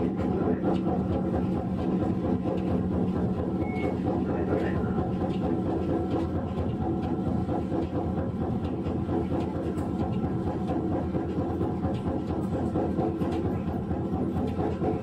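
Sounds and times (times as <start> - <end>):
streetcar motor rumble: 0.0 - 15.0.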